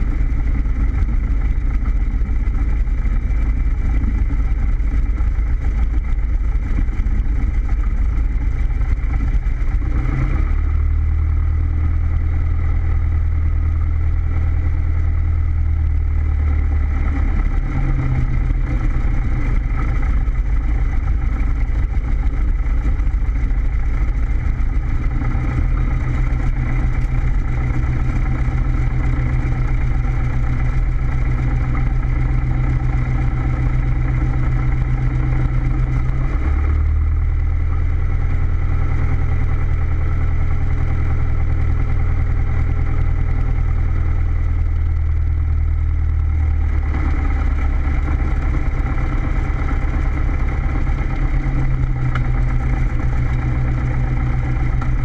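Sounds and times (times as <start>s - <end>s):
propeller plane engine running: 0.0s - 55.0s.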